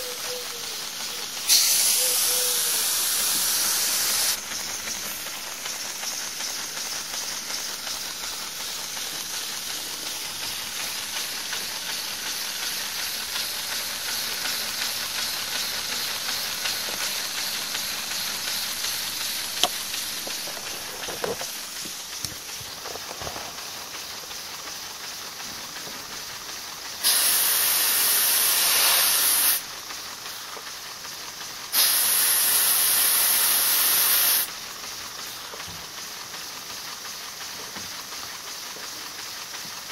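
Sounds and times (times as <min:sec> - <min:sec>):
hiss of escaping air: 0:00.0 - 0:39.9
model air engine running: 0:00.0 - 0:39.9.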